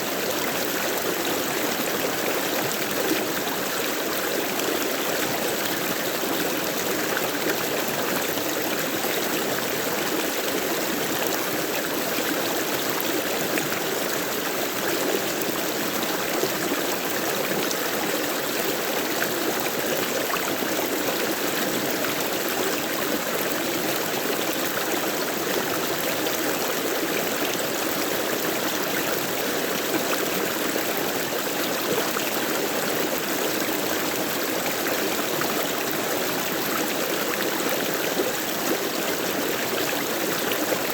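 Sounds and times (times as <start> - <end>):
stream running: 0.0 - 40.9.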